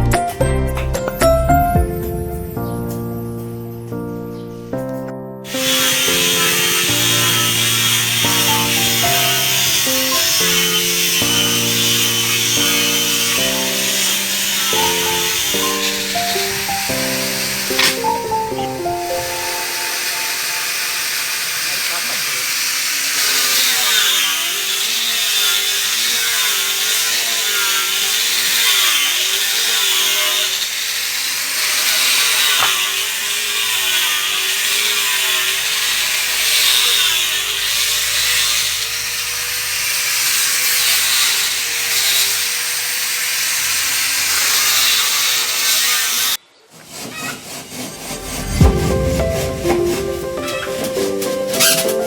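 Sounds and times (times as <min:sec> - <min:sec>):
power tool motor whine: 0:05.4 - 0:50.6
harsh hiss of cutting wood: 0:05.4 - 0:52.0.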